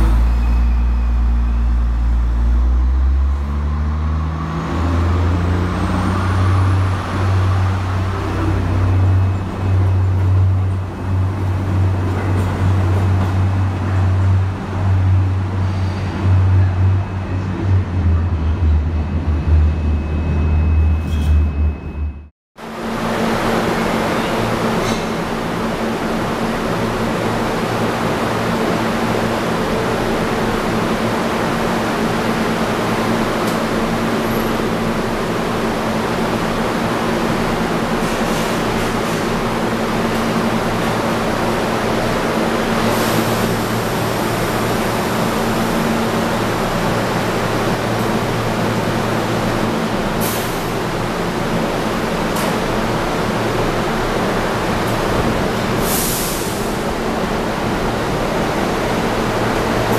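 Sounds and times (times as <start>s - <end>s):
low rumble of subway train: 0.0s - 59.9s
thin high tone of train: 0.0s - 59.9s.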